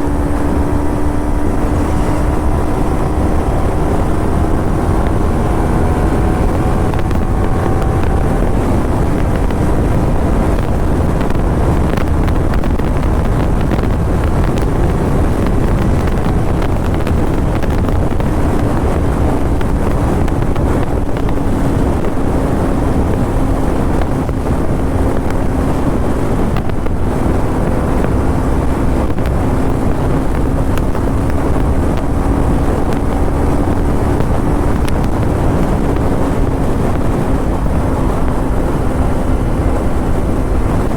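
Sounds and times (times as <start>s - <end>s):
motorcycle engine cruising: 0.0s - 40.9s
wind rush on microphone: 0.0s - 40.9s.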